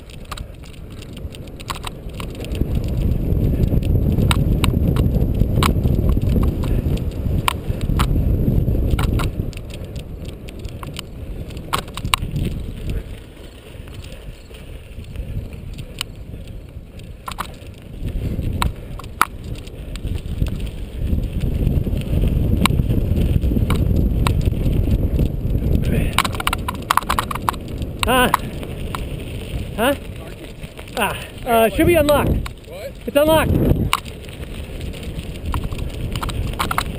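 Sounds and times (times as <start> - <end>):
bike clicks and rattles: 0.0 - 36.9
bike tyres rumbling over grass: 0.0 - 36.9
wind on microphone: 0.0 - 36.9.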